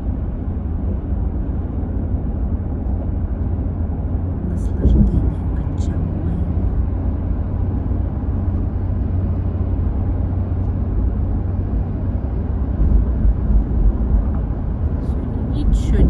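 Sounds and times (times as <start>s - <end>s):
car interior road rumble: 0.0s - 16.0s.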